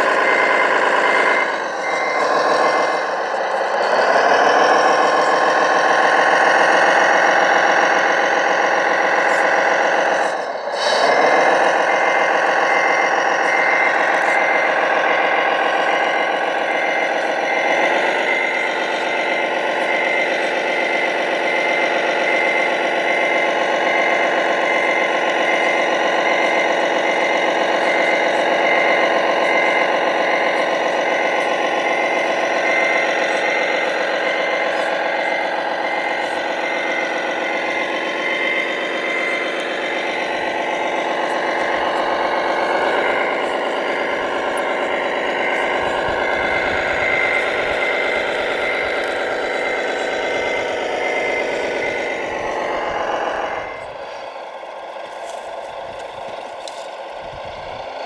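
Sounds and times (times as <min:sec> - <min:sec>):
diesel truck engine revving: 0:00.0 - 0:58.0
high-pitched beeping: 0:00.0 - 0:58.0.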